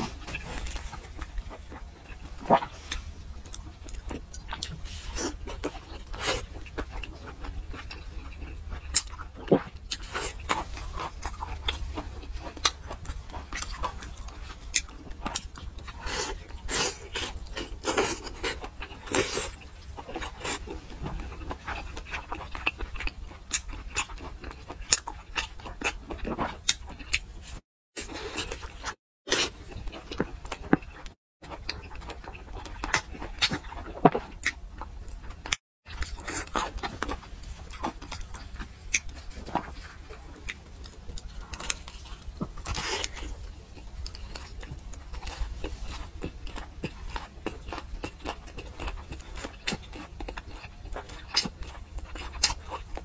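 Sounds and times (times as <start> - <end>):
chewing and lip-smacking: 0.1 - 27.6, 28.4 - 53.0.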